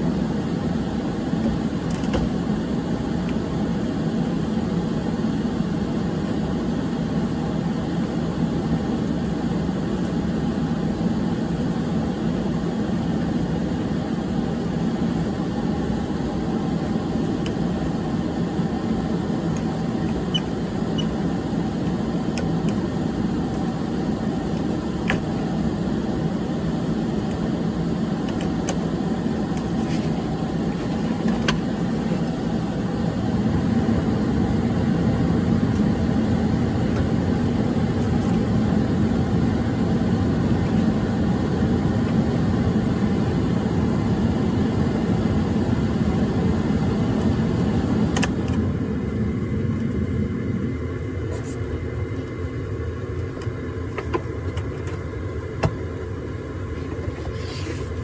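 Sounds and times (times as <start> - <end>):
furnace blower noise: 0.0 - 58.0.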